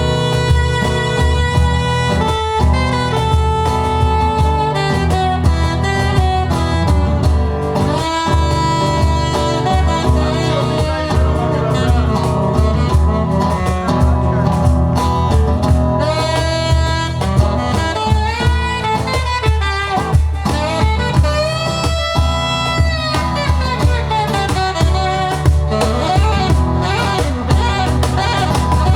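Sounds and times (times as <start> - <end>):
live band playing: 0.0 - 28.9
saxophone melody: 0.0 - 28.9.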